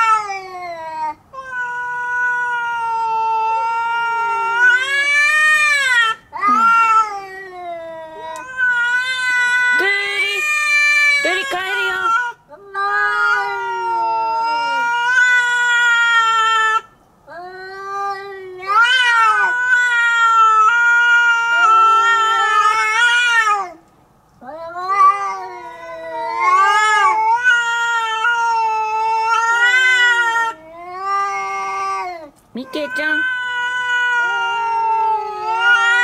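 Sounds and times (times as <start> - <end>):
cats yowling: 0.0 - 23.8, 24.4 - 36.0.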